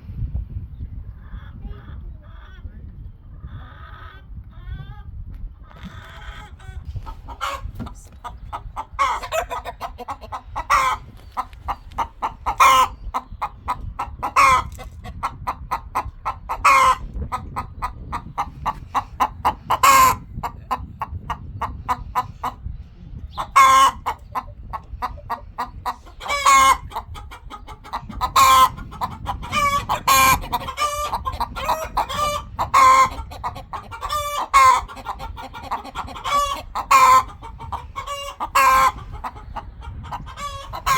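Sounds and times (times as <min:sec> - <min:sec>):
sharp chicken calls: 0:05.6 - 0:22.7, 0:23.3 - 0:40.9
chickens clucking: 0:05.6 - 0:40.9.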